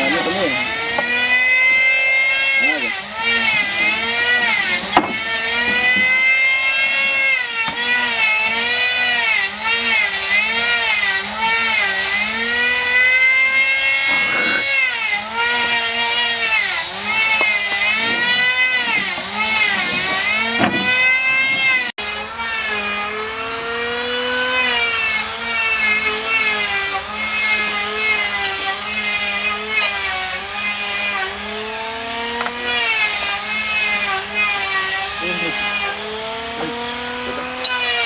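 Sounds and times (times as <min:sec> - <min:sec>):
power tool motor whining: 0:00.0 - 0:38.0
rasping bursts: 0:00.0 - 0:38.0.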